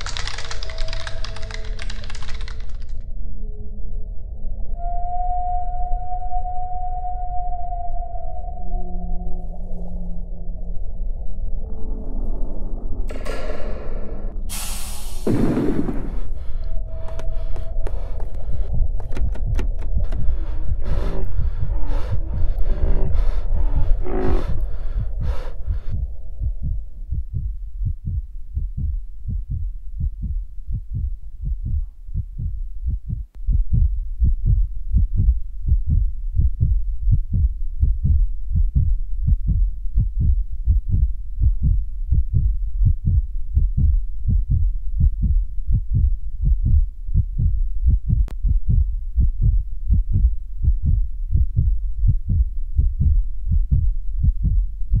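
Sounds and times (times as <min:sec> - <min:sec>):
low thumping pulse: 0:03.1 - 0:55.0.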